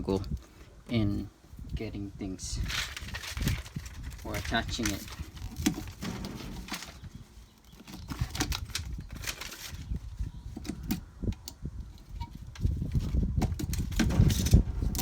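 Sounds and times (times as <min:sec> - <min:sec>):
tape crackling and rustling: 0:02.6 - 0:15.0.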